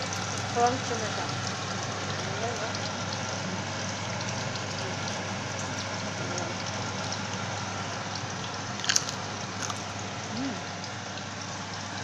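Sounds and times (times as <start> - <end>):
potatoes sizzling in hot oil: 0.0 - 12.0.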